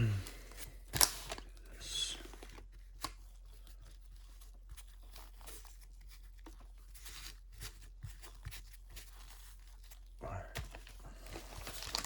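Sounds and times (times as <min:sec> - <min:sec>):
wrapper rustling: 0:00.5 - 0:12.0.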